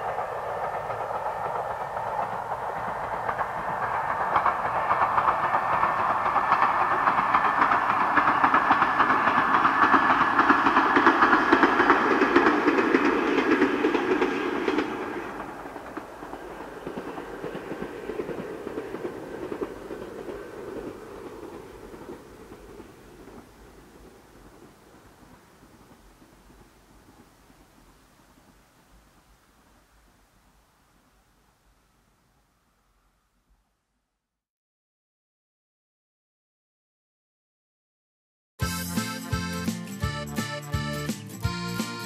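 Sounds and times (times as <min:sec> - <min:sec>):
electric train running on track: 0:00.0 - 0:31.4, 0:38.6 - 0:42.0.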